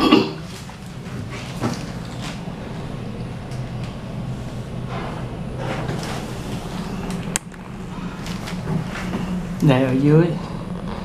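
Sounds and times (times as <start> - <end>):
elevator humming: 0.0 - 11.0.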